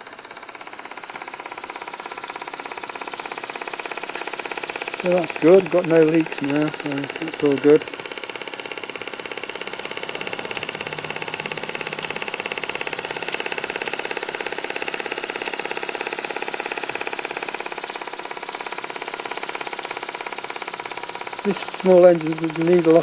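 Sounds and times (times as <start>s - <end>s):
model steam engine running: 0.0s - 23.0s.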